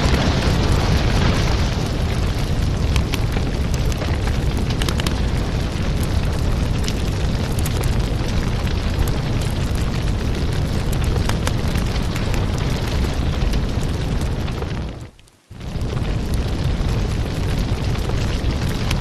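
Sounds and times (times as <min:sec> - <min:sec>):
burning wood crackling: 0:00.0 - 0:19.0
low rumble of flames: 0:00.0 - 0:19.0.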